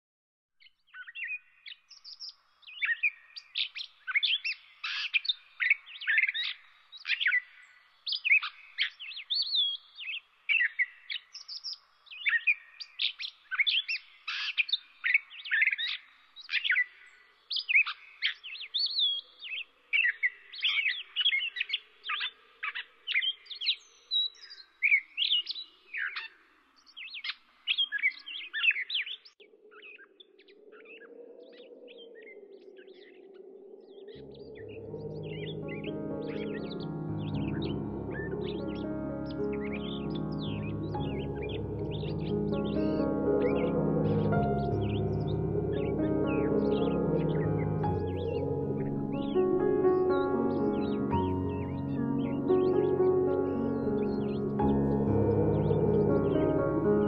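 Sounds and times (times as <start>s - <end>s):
birds chirping and singing: 0.9s - 57.0s.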